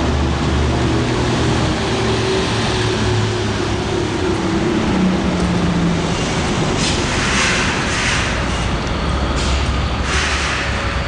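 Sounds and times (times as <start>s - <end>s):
city noise: 0.0s - 11.0s
vehicle engines humming: 0.0s - 11.0s.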